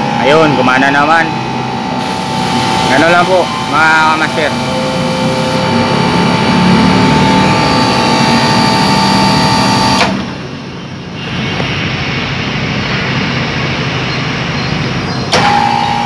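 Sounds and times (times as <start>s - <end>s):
air conditioner humming: 0.0s - 16.0s
steady noise: 0.0s - 16.0s.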